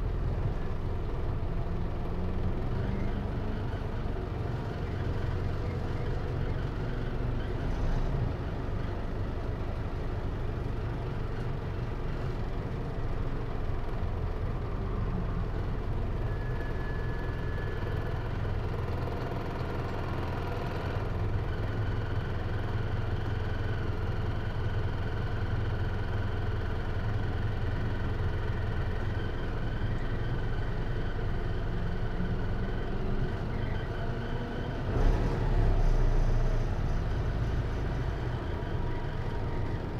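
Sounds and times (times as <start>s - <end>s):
diesel engine humming from inside: 0.0s - 39.9s.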